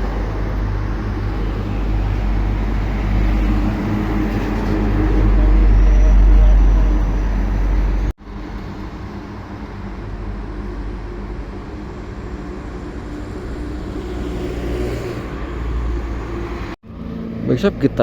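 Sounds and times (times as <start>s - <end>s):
high-speed train rushing: 0.0s - 16.8s.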